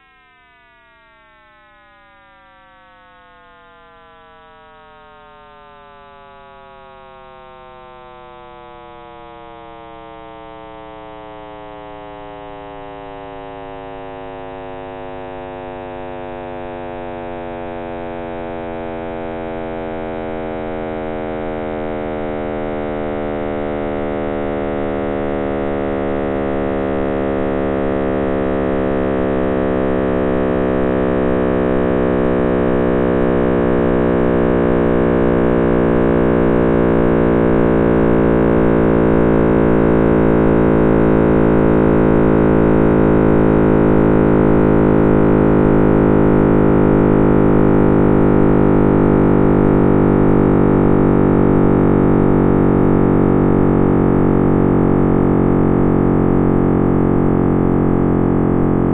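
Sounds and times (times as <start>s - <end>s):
synthesized drone sliding downward: 1.3s - 58.9s.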